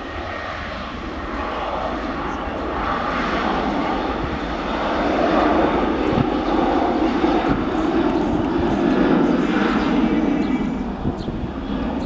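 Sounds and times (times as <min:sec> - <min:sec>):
airliner engines roaring: 0:00.0 - 0:12.0.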